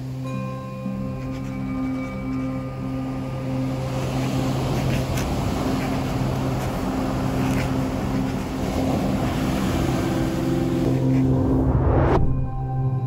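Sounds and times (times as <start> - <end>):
low music drone: 0.0 - 13.0.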